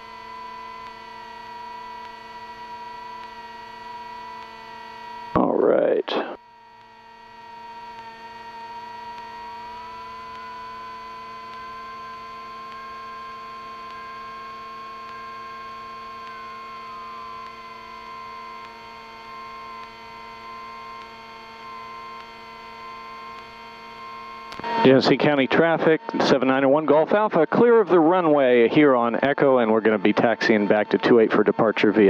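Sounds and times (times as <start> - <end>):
aircraft engine whine: 0.0 - 32.0
steady electrical hum: 0.0 - 32.0.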